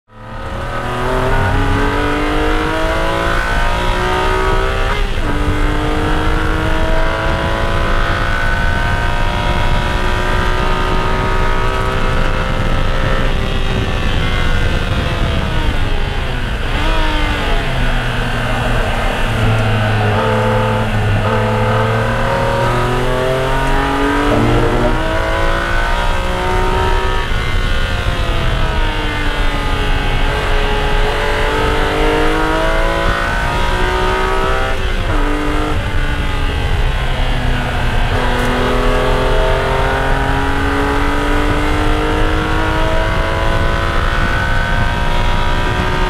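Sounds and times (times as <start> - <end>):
car engine revving: 0.1 - 46.0.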